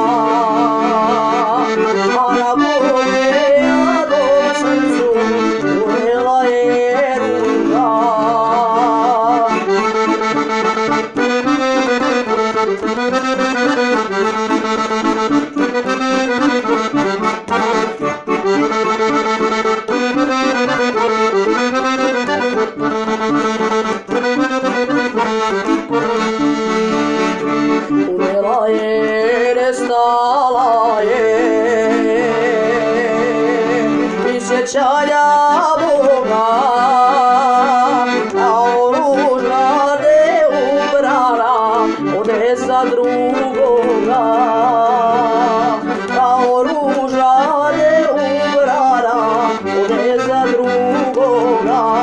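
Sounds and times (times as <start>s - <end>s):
accordion melody: 0.0s - 52.0s.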